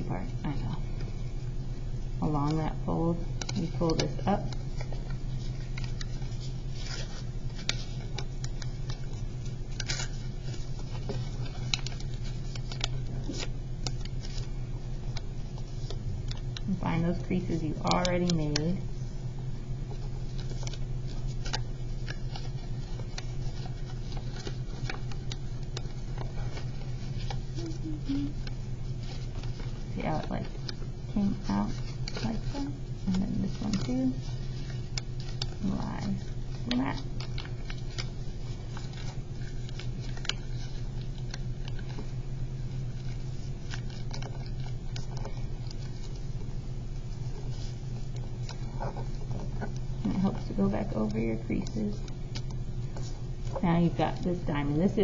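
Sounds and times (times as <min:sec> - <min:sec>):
paper crinkling while folded: 0:00.0 - 0:55.0
steady low hum: 0:00.0 - 0:55.0.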